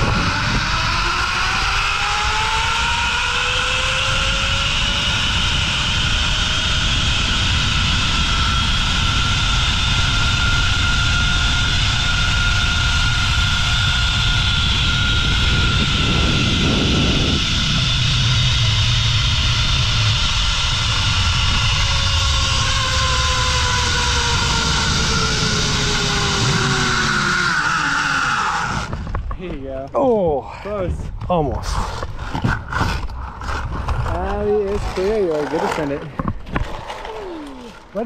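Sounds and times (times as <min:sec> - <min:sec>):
zip line pulleys whining: 0:00.0 - 0:29.2, 0:31.9 - 0:38.0
wind rush on microphone: 0:00.0 - 0:35.4.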